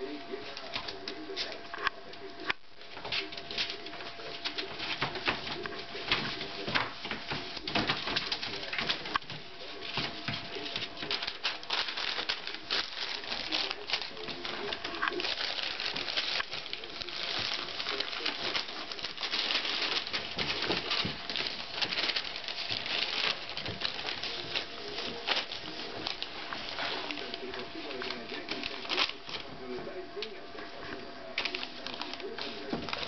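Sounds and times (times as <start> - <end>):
puppies scrabbling on paper: 0.0 - 33.0.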